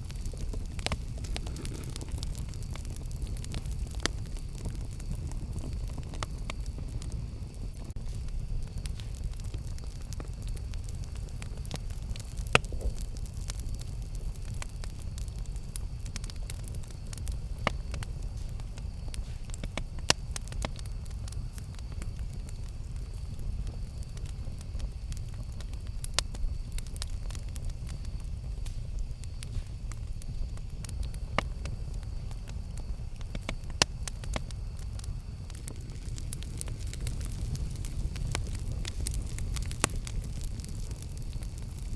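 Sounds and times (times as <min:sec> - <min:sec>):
campfire flames rumbling: 0:00.0 - 0:41.9
wood crackling and popping: 0:00.0 - 0:41.9.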